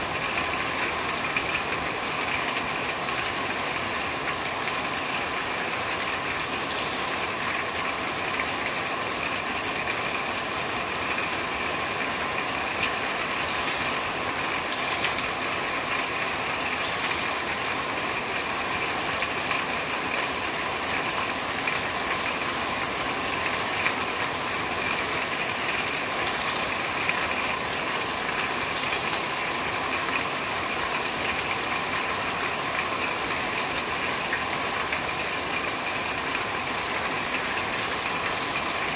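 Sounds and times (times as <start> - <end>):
rain on a corrugated roof: 0.0 - 38.9.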